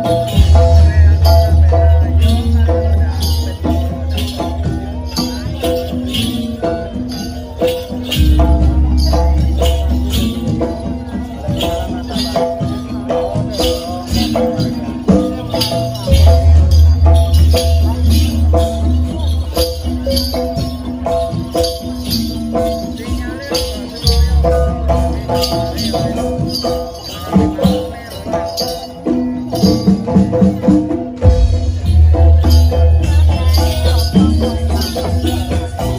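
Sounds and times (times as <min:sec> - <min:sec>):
drum strokes: 0:00.0 - 0:35.9
pitched percussion notes: 0:00.0 - 0:35.9
sharp percussion hits: 0:00.0 - 0:35.9.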